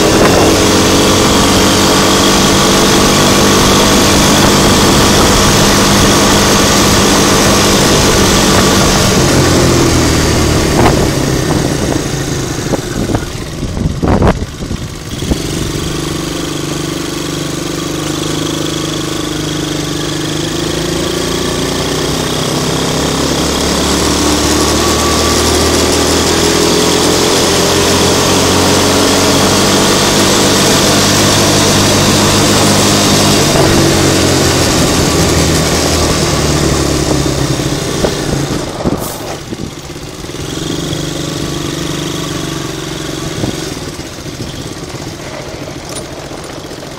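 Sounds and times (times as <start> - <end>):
quad bike engine accelerating: 0.0 - 46.9.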